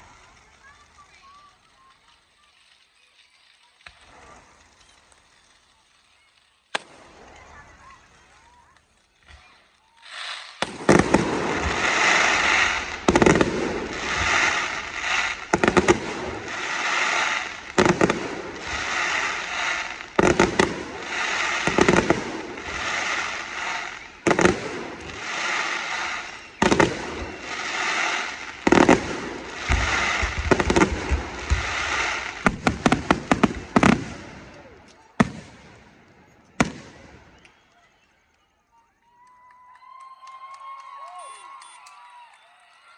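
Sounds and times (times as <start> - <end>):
crackling fizz: 0.0 - 34.8
fireworks bangs: 0.0 - 38.3.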